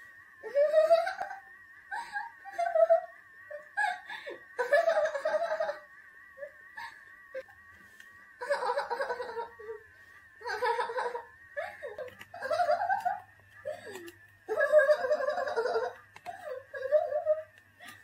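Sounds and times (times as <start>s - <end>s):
electric massager whine: 0.0s - 18.0s
woman giggling and squealing: 0.4s - 7.5s, 8.4s - 18.0s.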